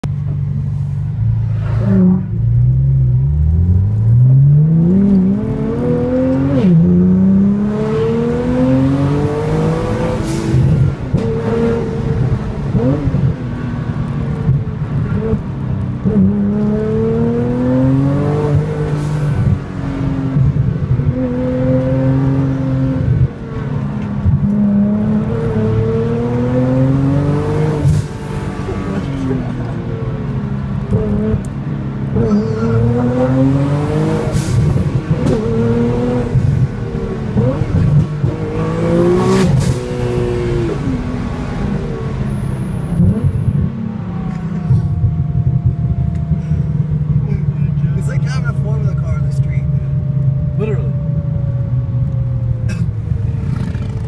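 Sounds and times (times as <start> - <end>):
car engine accelerating hard: 1.4 - 54.0.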